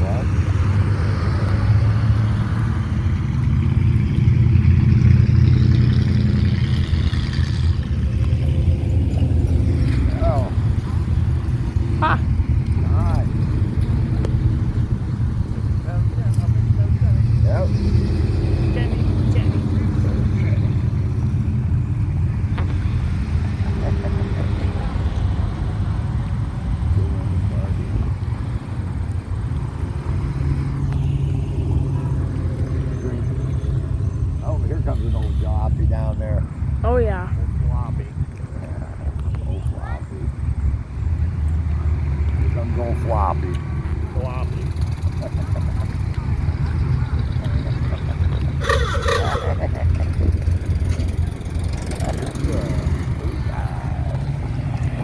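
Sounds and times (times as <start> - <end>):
vehicle engine driving past: 0.0 - 55.0.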